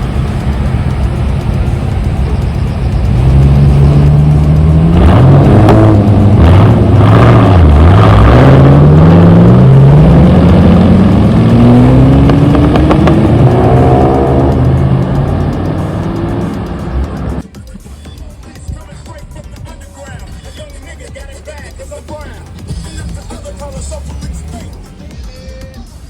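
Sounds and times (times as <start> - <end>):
car engine revving: 0.0 - 17.5, 18.9 - 25.2.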